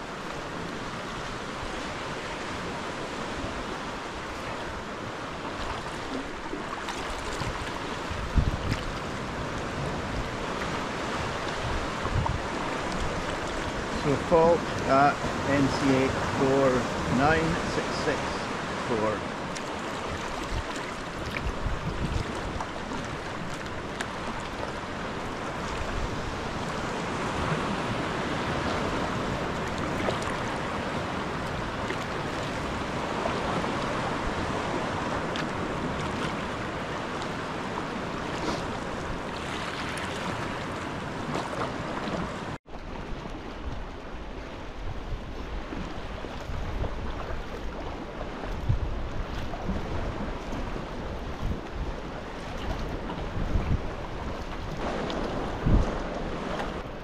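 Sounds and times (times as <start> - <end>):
water washing over rocks: 0.0 - 44.6, 45.5 - 57.0
water lapping around kayak: 0.0 - 57.0
wind on microphone: 0.6 - 57.0.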